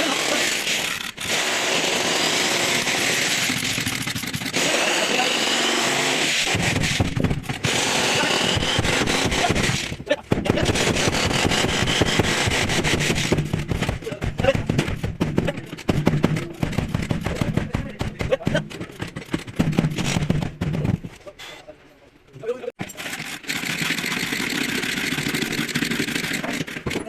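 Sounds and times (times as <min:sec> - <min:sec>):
power tool hammering: 0:00.0 - 0:21.0, 0:22.8 - 0:27.0.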